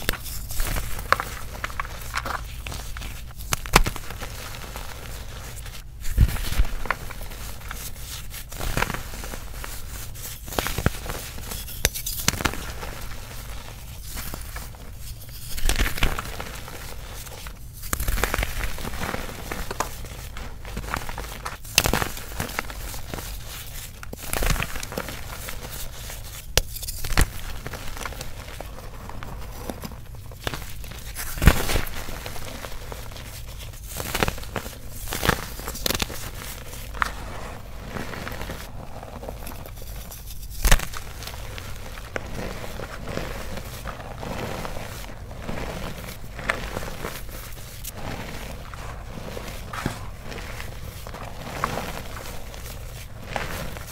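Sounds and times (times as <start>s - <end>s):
chalk blocks crunching by hand: 0.0s - 53.9s.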